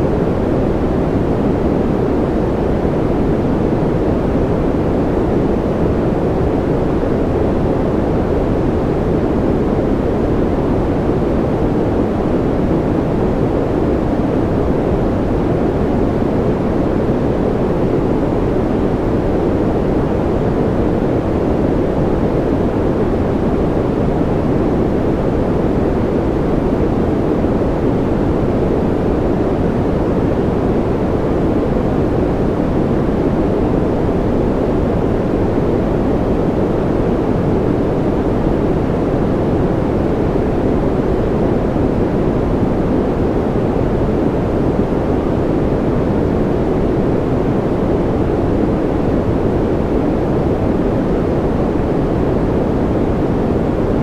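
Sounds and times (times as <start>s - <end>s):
white noise: 0.0s - 54.0s.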